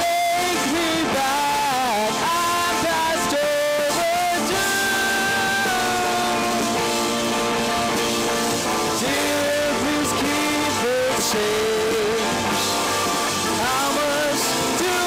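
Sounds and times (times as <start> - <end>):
electric guitar bending lead notes: 0.0 - 15.0
live rock band playing: 0.0 - 15.0.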